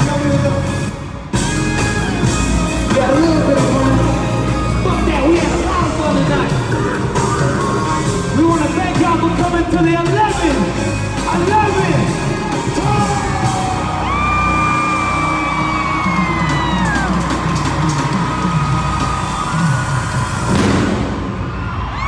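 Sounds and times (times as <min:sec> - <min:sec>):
crowd yelling: 0:00.0 - 0:22.0
loud concert music with bass beat: 0:00.0 - 0:22.0.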